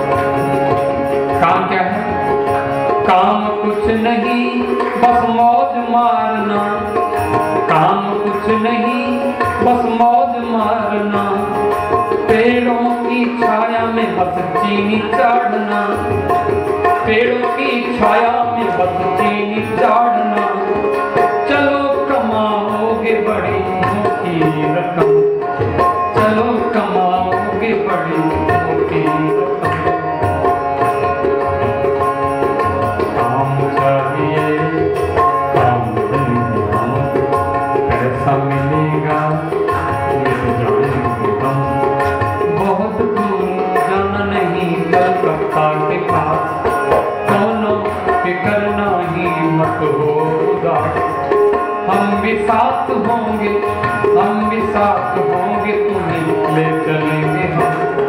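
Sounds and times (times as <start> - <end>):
harmonium melody: 0.0 - 58.0
tabla drumming: 0.0 - 58.0.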